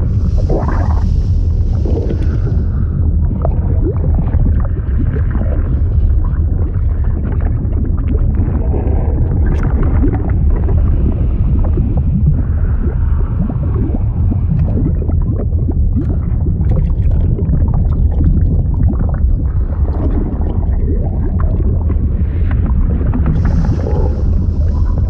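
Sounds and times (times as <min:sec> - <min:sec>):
liquid bubbling and gurgling: 0:00.0 - 0:25.0.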